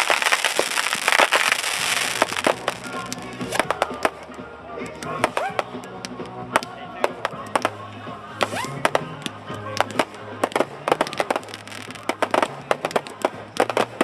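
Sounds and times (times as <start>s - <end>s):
fireworks bangs and pops: 0.0s - 14.0s
music playing: 0.0s - 14.0s.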